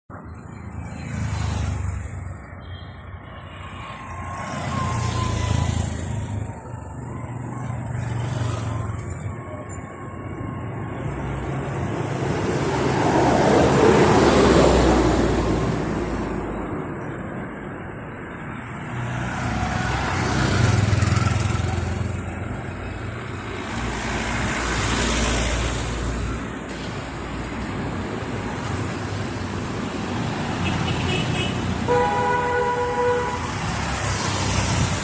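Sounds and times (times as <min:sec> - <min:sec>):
vehicles passing on street: 0:00.1 - 0:35.0.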